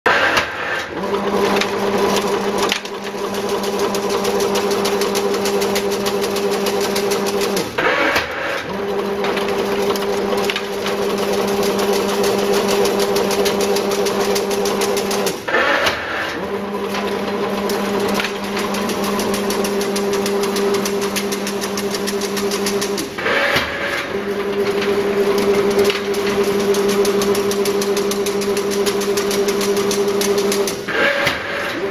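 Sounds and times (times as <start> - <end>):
fast even machine clatter: 0.1 - 31.8
machine motor hum: 0.2 - 31.9.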